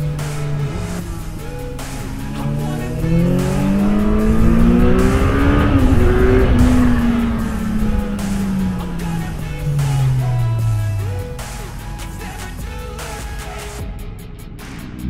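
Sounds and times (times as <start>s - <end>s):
motorcycle engine accelerating: 0.0s - 13.2s
music: 0.0s - 15.0s.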